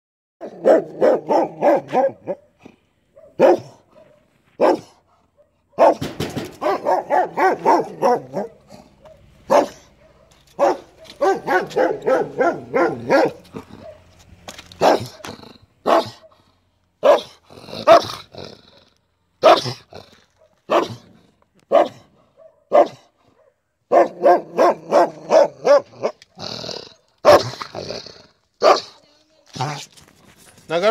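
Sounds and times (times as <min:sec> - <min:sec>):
dog barking aggressively: 0:00.4 - 0:14.2, 0:14.8 - 0:18.5, 0:19.4 - 0:28.0, 0:28.6 - 0:29.0.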